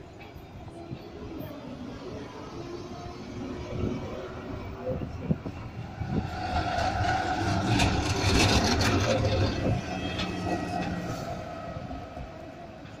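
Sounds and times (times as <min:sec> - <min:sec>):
tram wheels on rails: 0:00.0 - 0:13.0.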